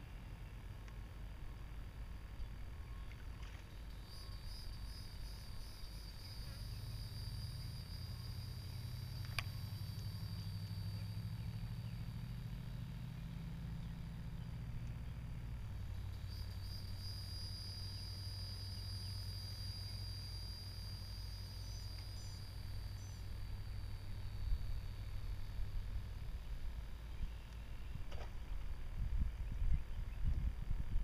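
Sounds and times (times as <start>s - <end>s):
high whine: 2.6s - 29.7s.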